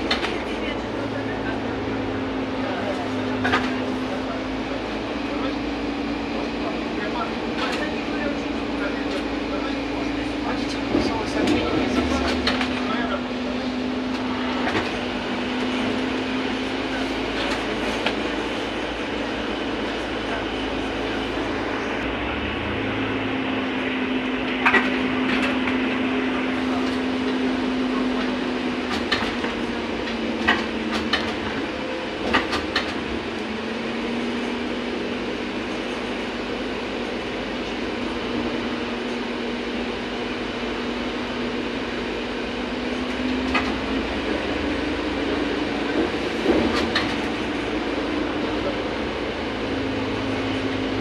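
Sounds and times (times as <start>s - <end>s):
trolleybus electric motor hum: 0.0s - 51.0s.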